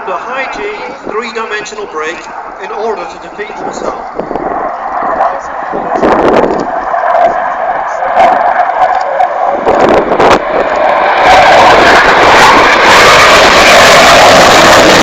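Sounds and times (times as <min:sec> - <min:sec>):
jet roaring past low: 0:00.0 - 0:15.0.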